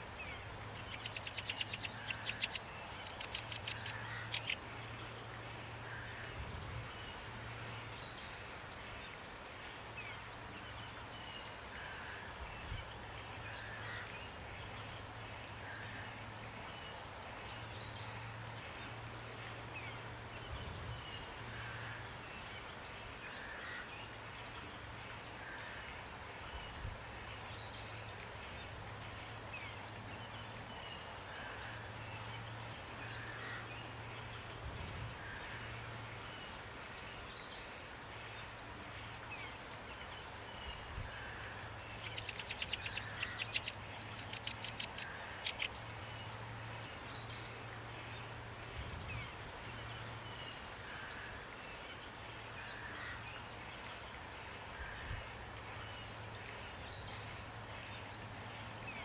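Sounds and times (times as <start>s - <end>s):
small birds chirping: 0.0s - 5.2s, 15.7s - 59.0s
rain hiss: 0.0s - 59.0s.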